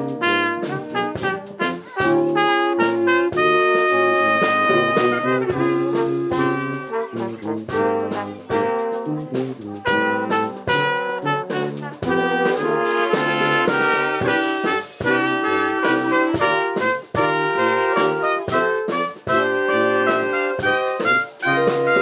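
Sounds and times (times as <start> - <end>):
brass quintet playing: 0.0 - 22.0
drum hits: 0.0 - 22.0.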